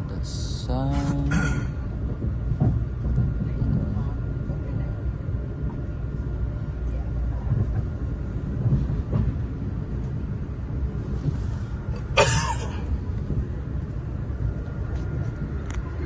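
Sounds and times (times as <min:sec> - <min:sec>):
train rumble on board: 0:00.0 - 0:16.0.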